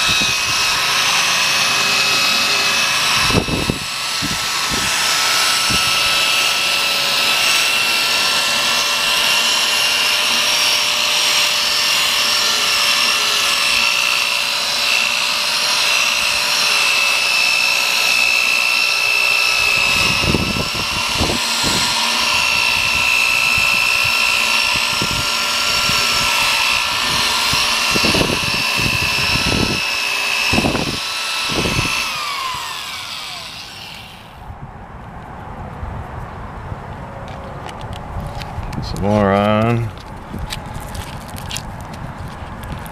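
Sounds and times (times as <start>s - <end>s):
electric drill motor whine: 0.0s - 34.5s.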